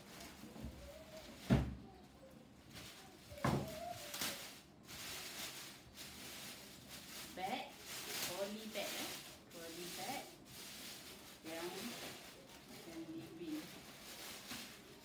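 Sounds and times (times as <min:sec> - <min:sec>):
plastic wrapping rustling: 0:00.0 - 0:15.0.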